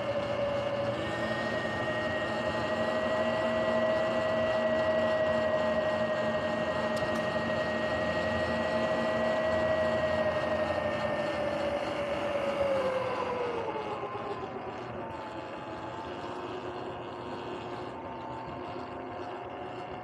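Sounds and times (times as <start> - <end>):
electric motorbike drivetrain whining: 0.0 - 20.0.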